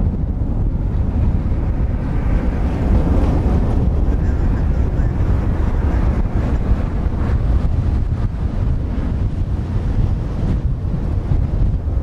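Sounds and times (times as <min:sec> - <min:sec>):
jet engines roaring: 0:00.0 - 0:12.0
wind buffeting microphone: 0:00.0 - 0:12.0.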